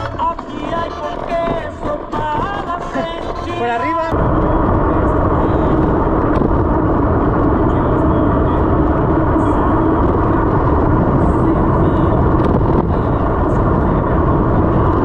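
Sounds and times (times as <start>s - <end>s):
wind and tyre noise: 0.0s - 15.0s.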